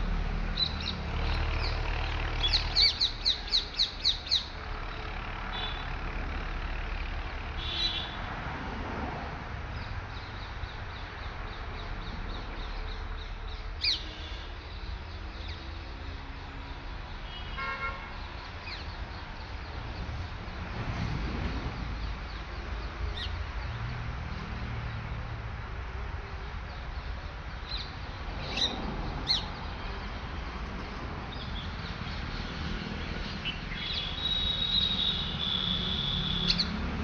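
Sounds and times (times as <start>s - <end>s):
birds chirping: 0.3s - 8.2s, 9.7s - 25.4s, 26.2s - 37.0s.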